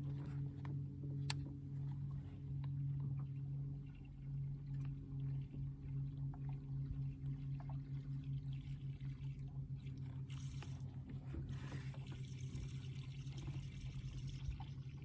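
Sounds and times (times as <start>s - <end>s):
boat motor humming: 0.0s - 15.0s
faint water sounds: 0.0s - 15.0s.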